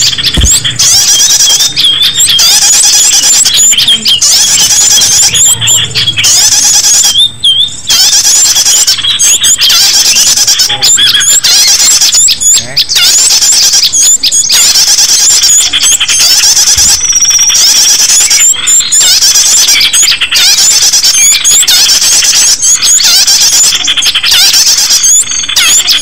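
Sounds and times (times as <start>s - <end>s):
bird lure call high chirps: 0.0s - 26.0s.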